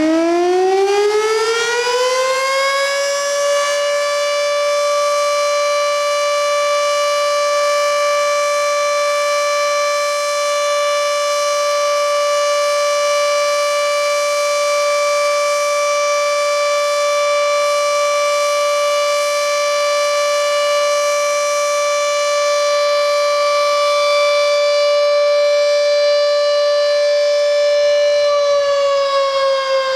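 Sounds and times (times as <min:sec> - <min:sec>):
air raid siren: 0:00.0 - 0:29.9.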